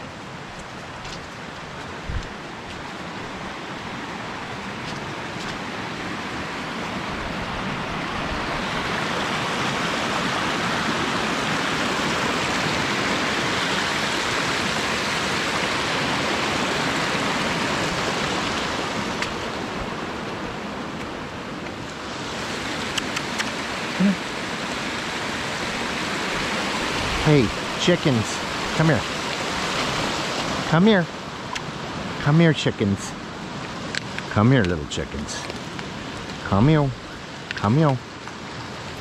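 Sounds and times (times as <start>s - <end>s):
creek rushing over rocks: 0.0s - 39.0s.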